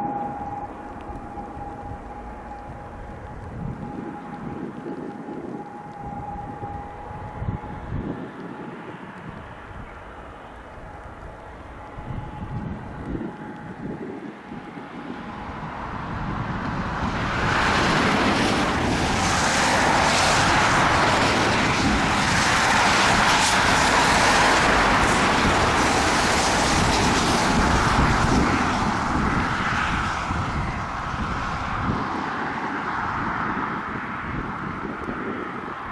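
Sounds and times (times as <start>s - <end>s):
turboprop engines and propellers: 0.0s - 35.9s.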